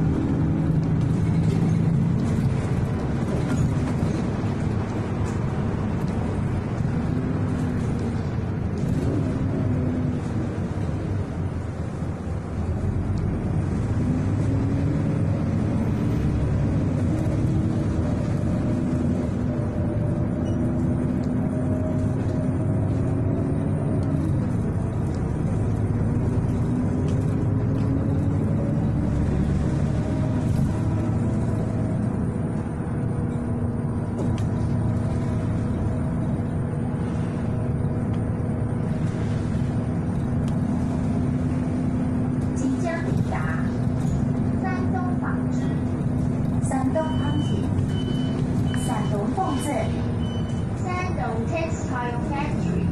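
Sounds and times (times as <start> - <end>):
bus engine rumble: 0.0 - 52.9.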